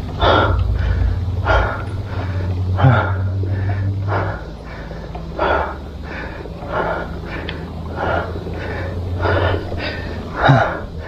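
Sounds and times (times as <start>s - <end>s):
cyclist breathing hard: 0.0s - 11.0s.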